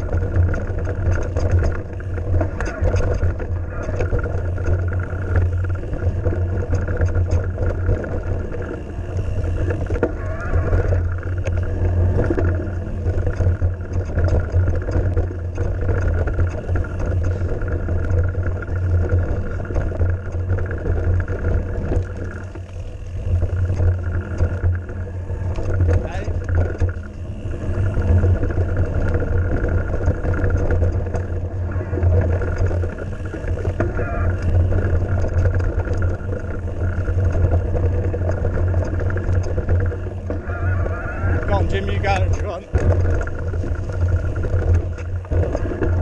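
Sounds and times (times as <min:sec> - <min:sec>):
bike clicks and rattles: 0:00.0 - 0:46.0.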